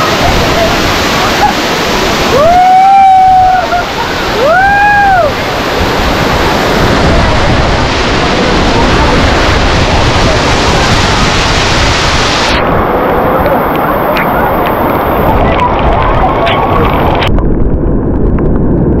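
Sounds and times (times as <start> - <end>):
waterfall roaring: 0.0 - 17.3.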